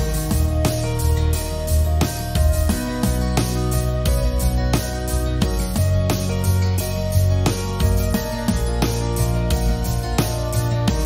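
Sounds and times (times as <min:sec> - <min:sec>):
plucked guitar with steady beat: 0:00.0 - 0:11.0.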